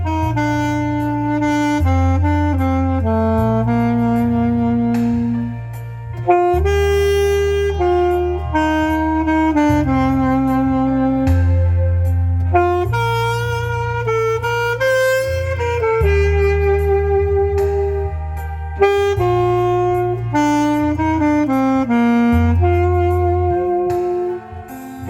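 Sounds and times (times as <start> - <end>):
saxophone slow melody: 0.0 - 25.0
steady bass line: 0.0 - 25.0.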